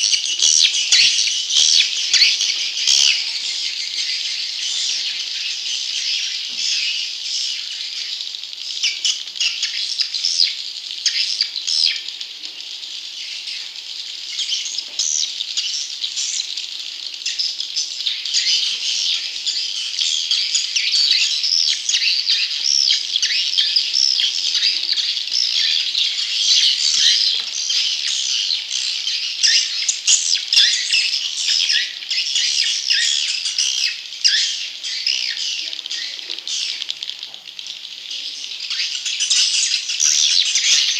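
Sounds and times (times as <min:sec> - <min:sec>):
bird chicks chirping: 0:00.0 - 0:40.9.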